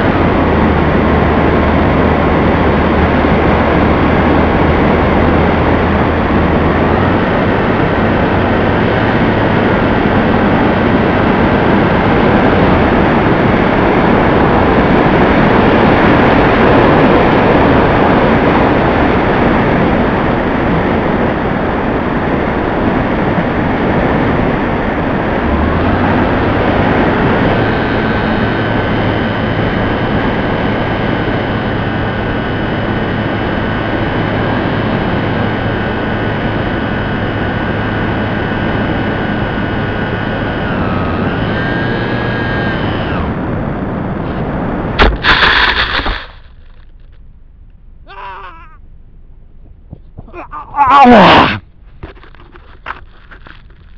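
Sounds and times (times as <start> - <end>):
propeller motor humming: 0.0 - 53.9.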